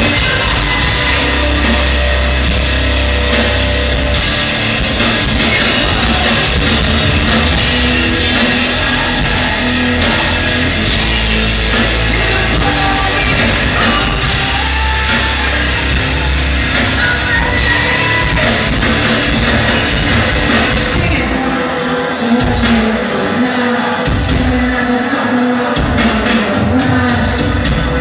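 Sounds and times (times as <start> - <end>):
heavy distorted guitar: 0.0 - 28.0
pounding drum kit: 0.0 - 28.0.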